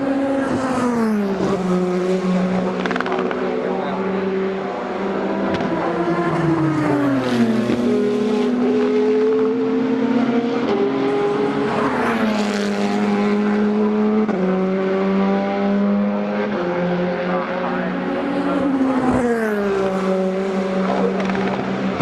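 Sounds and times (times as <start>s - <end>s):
race car engines accelerating: 0.0s - 22.0s.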